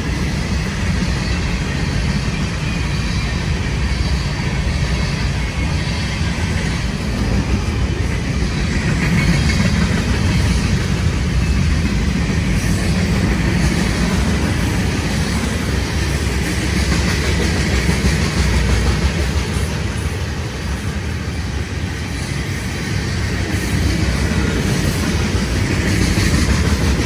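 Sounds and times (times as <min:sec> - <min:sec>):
freight train wheels on rails: 0:00.0 - 0:27.0.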